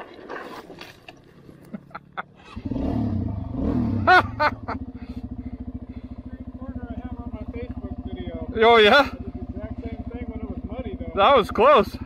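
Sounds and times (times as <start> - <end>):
motorcycle riding up: 0.0 - 12.0
motorcycle engine idling: 1.2 - 12.0.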